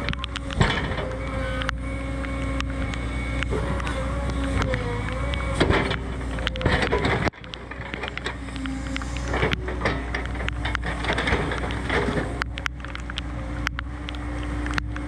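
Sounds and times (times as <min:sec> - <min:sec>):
excavator diesel engine: 0:00.0 - 0:15.0
hydraulic whine: 0:00.0 - 0:15.0.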